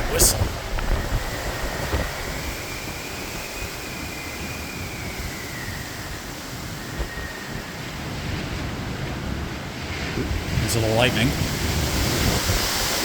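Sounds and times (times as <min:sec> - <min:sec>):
high wind whistle: 0:00.0 - 0:13.0
storm wind blowing: 0:00.0 - 0:13.0.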